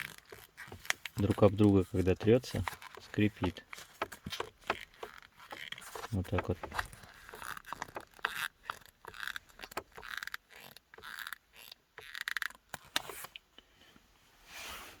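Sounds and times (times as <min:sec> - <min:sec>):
leather gear boot squeaking: 0:00.0 - 0:13.3.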